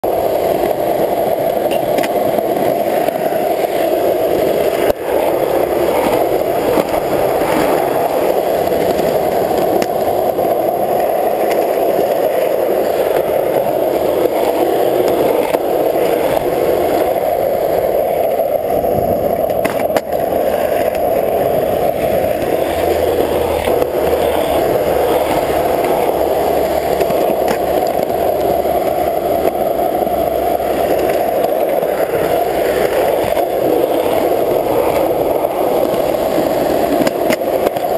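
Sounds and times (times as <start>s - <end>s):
skateboard wheels rolling on asphalt: 0.0s - 37.9s.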